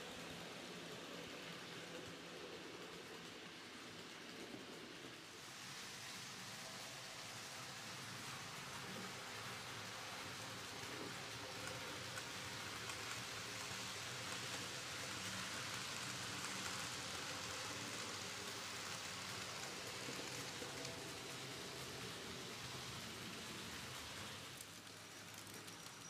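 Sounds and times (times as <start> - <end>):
model train wheels hissing on rails: 0.0 - 26.0.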